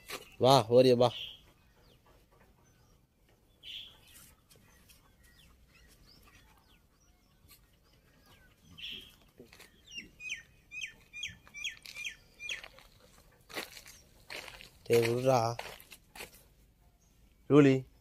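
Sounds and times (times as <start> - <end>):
bird chirping: 0.0 - 15.6
faint outdoor background: 0.0 - 18.0.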